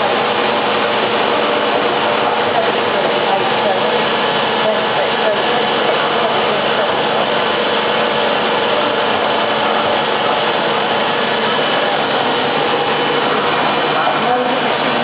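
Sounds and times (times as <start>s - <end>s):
machine hum with whining tones: 0.0s - 15.0s.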